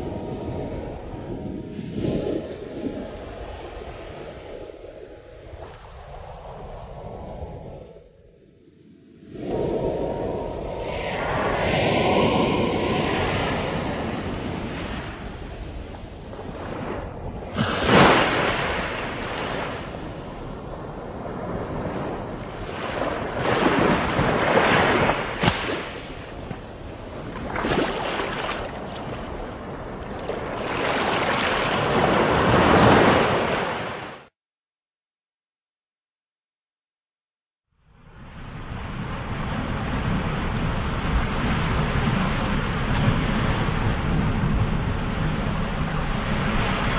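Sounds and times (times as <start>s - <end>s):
sea waves breaking on shore: 0.0s - 34.3s, 38.0s - 46.9s.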